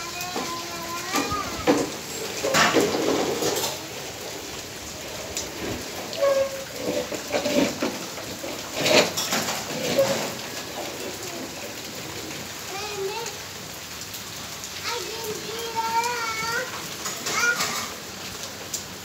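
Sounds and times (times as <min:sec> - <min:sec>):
rain on concrete rooftop: 0:00.0 - 0:19.0.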